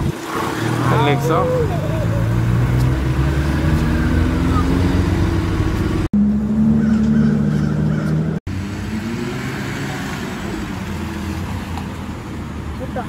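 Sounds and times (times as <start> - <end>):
car driving past: 0.5 - 12.6.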